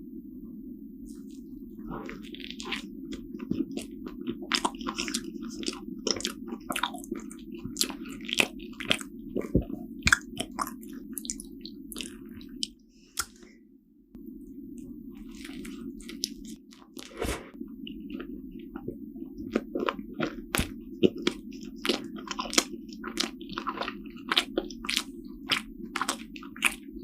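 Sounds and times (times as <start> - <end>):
steady low hum: 0.0 - 27.0
person chewing with wet mouth sounds: 1.1 - 13.5, 14.8 - 27.0.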